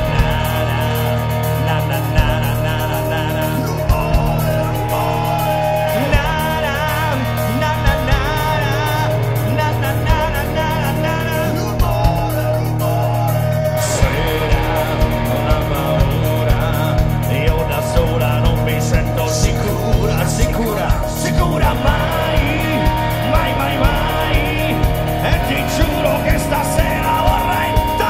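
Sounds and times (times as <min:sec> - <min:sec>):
drum beat: 0:00.0 - 0:28.0
live rock band playing: 0:00.0 - 0:28.0
person singing: 0:00.0 - 0:28.0.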